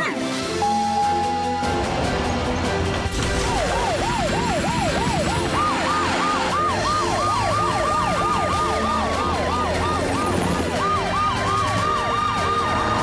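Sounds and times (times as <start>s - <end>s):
background music: 0.0s - 13.0s
emergency sirens yelping: 0.4s - 13.0s.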